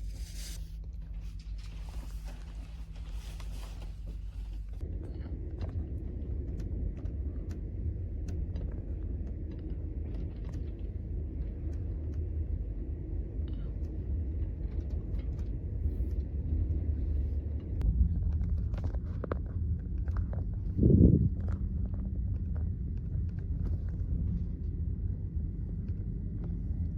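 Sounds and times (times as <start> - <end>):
train rumbling inside carriage: 0.0 - 26.9
light clicks and rattles: 0.9 - 26.9.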